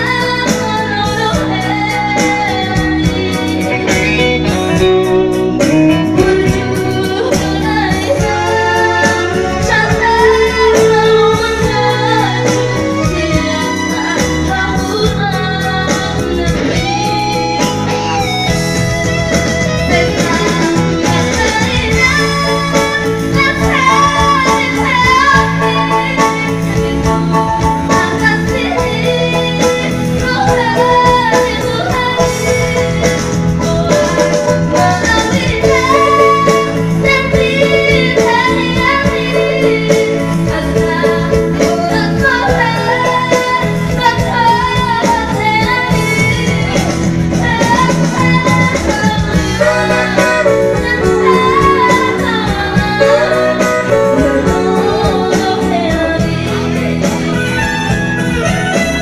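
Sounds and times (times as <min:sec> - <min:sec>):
instrumental accompaniment: 0:00.0 - 0:59.0
woman singing into microphone: 0:00.0 - 0:59.0.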